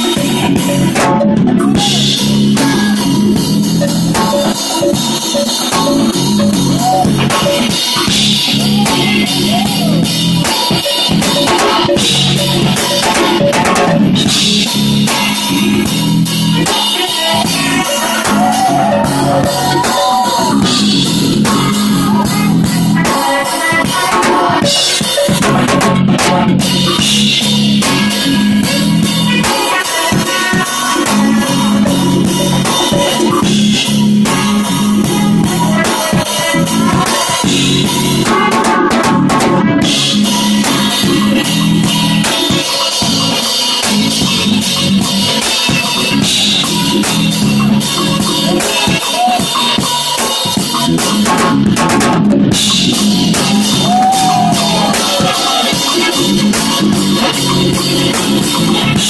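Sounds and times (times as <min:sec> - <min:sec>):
drum kit groove: 0:00.0 - 0:59.0
keyboards: 0:00.0 - 0:59.0.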